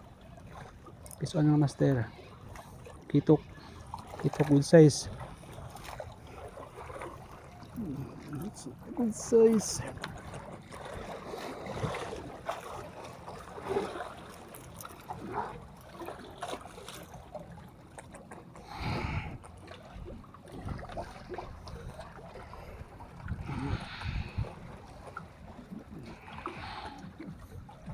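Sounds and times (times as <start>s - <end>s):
water lapping among blocks: 0.0s - 27.9s.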